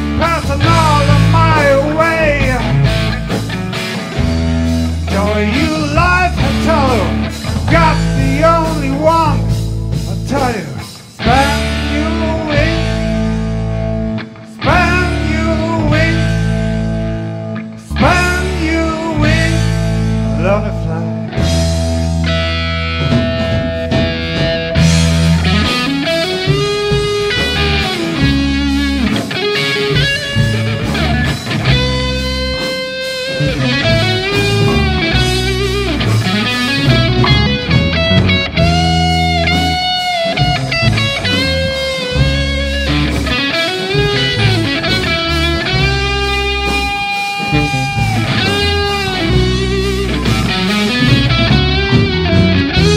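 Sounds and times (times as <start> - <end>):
bass guitar: 0.0 - 52.9
blues-rock band playing: 0.0 - 52.9
drums: 0.0 - 52.9
electric guitar lead notes: 0.0 - 52.9.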